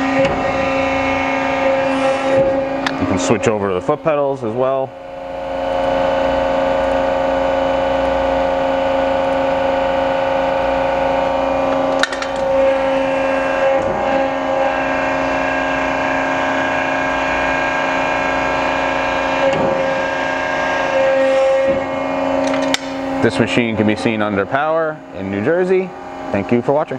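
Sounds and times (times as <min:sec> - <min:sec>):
hydraulic pump motor whining: 0:00.0 - 0:26.9.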